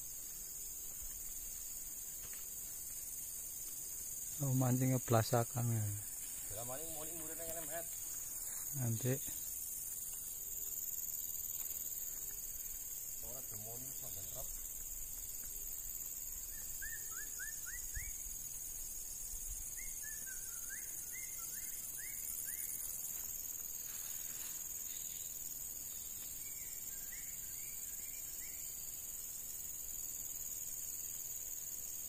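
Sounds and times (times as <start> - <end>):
night insect chorus drone: 0.0 - 32.0.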